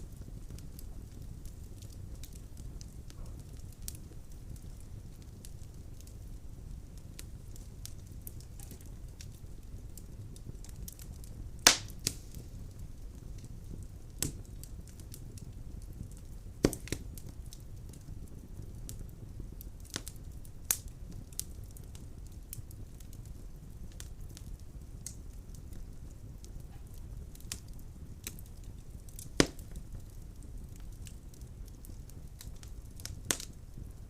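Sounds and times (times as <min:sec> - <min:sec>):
burning logs popping: 0:00.0 - 0:34.0
fire crackling in a fireplace: 0:00.0 - 0:34.0.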